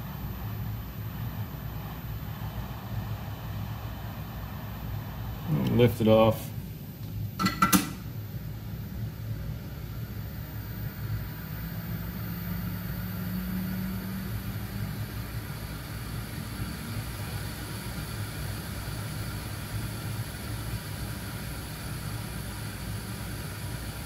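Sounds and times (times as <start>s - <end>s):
hot air blower drone: 0.0s - 6.8s, 7.6s - 24.0s.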